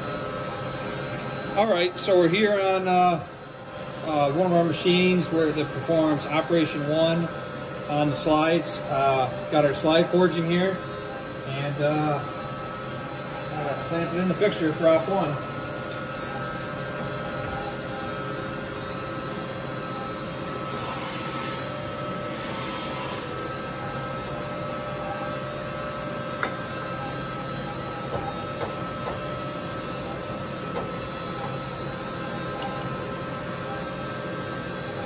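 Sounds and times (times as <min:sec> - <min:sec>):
machine hum: 0:00.0 - 0:35.0.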